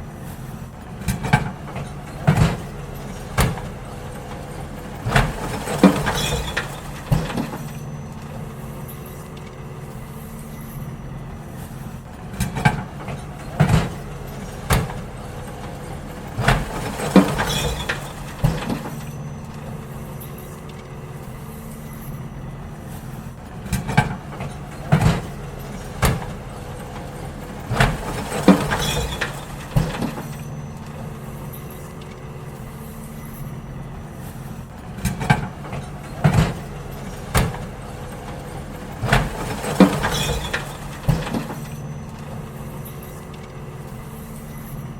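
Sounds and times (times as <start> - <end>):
bins banging and clattering: 0.0 - 44.9
diesel truck engine running: 0.0 - 44.9.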